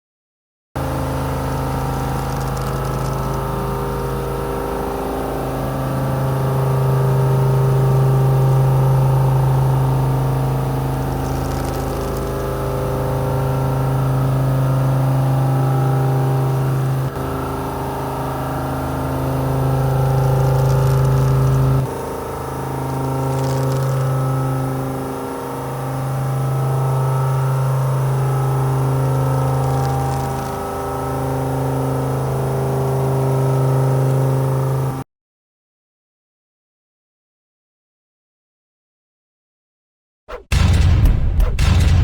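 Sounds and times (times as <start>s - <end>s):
milling machine hum: 0.9s - 34.8s.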